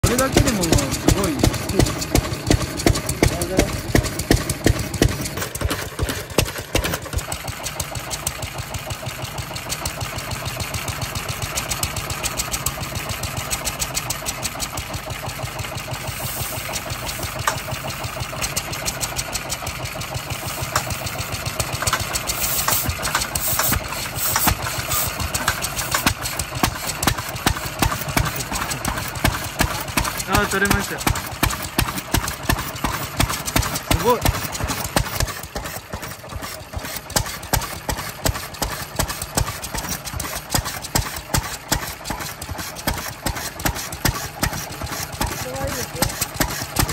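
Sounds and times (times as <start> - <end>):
stationary engine running: 0.0 - 46.9.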